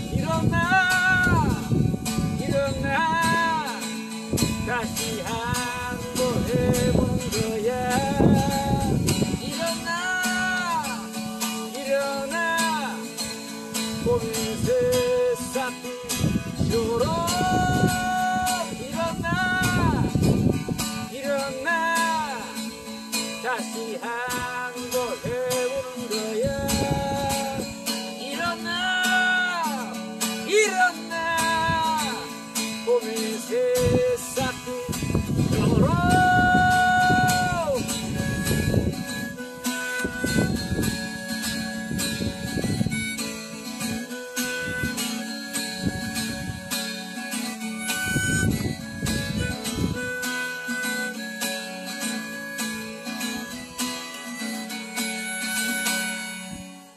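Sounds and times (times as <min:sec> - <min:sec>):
acoustic guitar strumming: 0:00.0 - 0:56.9
harmonica melody: 0:00.0 - 0:56.9.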